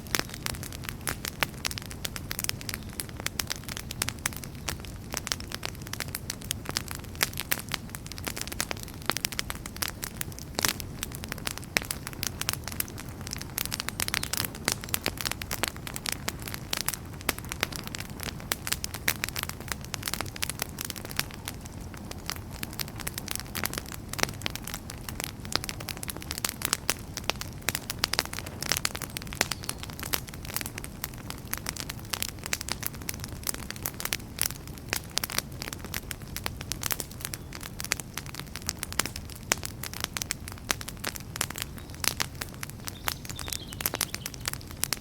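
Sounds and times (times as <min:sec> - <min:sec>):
campfire crackling and popping: 0:00.0 - 0:45.0
low roar of flames: 0:00.0 - 0:45.0.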